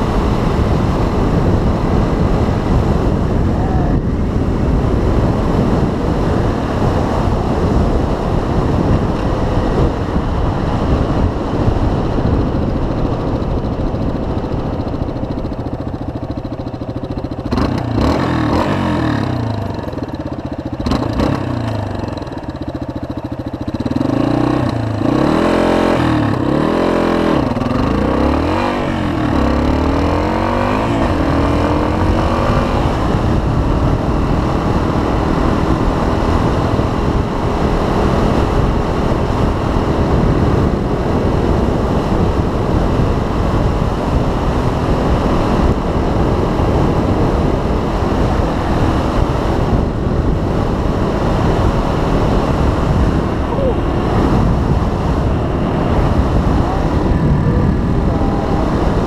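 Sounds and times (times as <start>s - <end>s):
motorcycle engine: 0.0s - 59.0s
wind rush: 0.0s - 59.0s.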